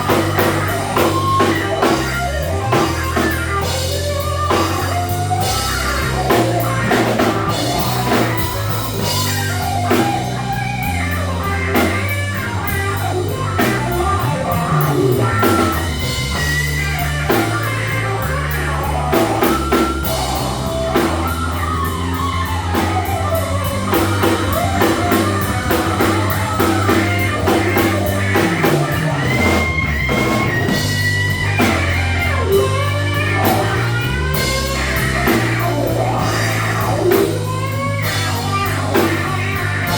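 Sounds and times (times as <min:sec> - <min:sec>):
electric blues band playing: 0:00.0 - 0:39.9
lead electric guitar bending notes: 0:00.0 - 0:39.9.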